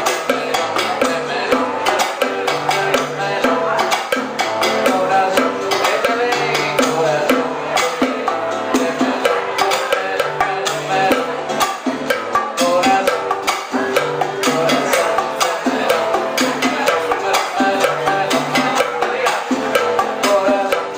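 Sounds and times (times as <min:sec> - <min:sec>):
bass: 0:00.0 - 0:20.9
clave and percussion pattern: 0:00.0 - 0:20.9.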